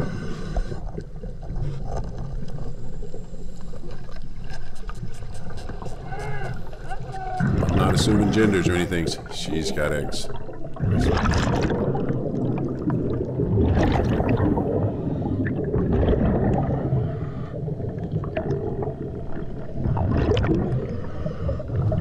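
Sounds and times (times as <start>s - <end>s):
underwater air bubbling: 0.0s - 22.0s.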